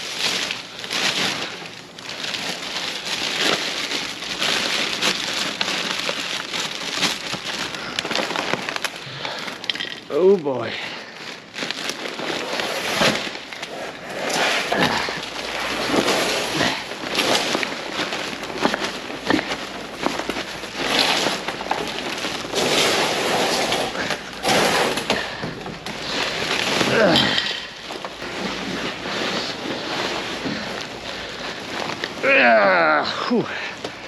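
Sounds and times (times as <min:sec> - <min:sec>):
plastic trash bags rustling: 0:00.0 - 0:34.0.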